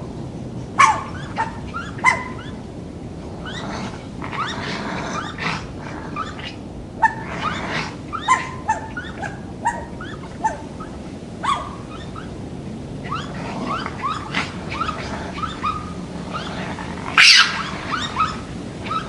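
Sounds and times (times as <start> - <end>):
steady low hiss: 0.0 - 19.0
raccoon squealing and whining: 0.8 - 2.6, 3.4 - 19.0.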